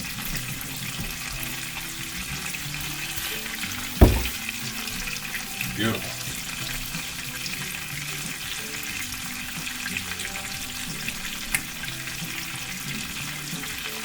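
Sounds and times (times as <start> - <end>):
chicken sizzling in a skillet: 0.0 - 3.7, 4.8 - 14.0.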